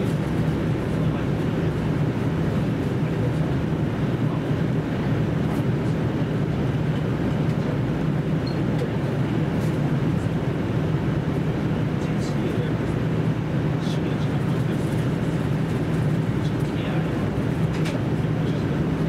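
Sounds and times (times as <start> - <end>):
low diesel engine drone: 0.0 - 19.0.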